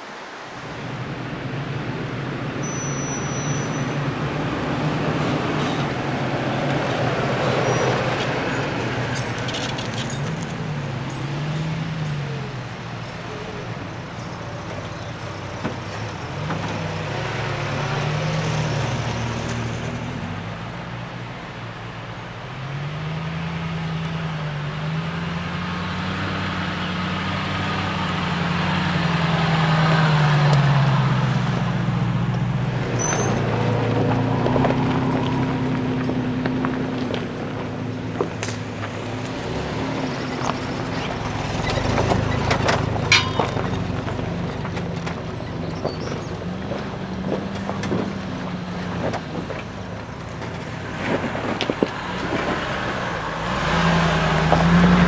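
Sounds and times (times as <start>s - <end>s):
tyres on dirt trail: 0.0s - 55.0s
vehicle engines driving slowly: 0.0s - 55.0s.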